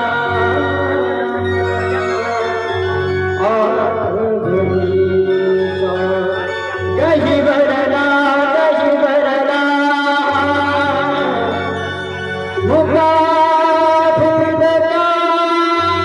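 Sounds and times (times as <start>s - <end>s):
person singing: 0.0s - 16.0s
synthesizer melody: 0.0s - 16.0s
tabla: 0.0s - 16.0s.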